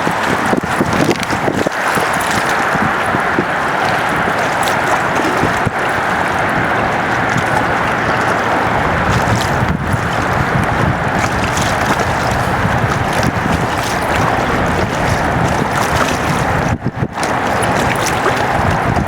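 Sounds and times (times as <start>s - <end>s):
river water rushing: 0.0s - 19.0s
wind noise on microphone: 0.0s - 19.0s.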